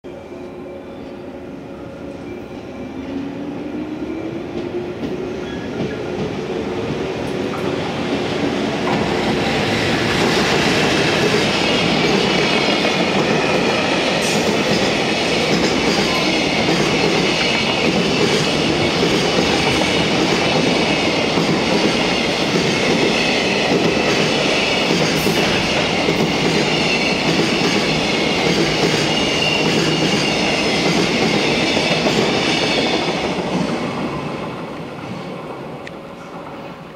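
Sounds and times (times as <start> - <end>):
electric locomotive passing: 0.1 - 36.9
steel wheels rolling on rail: 3.0 - 36.9.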